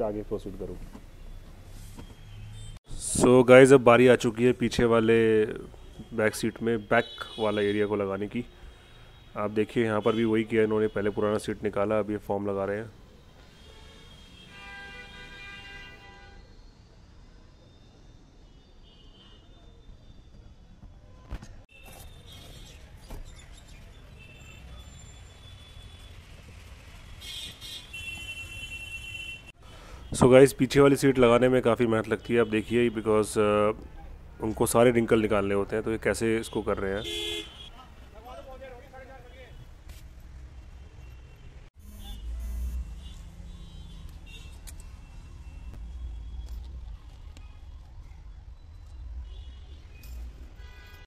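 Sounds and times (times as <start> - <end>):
busy street rumble: 7.7 - 51.0.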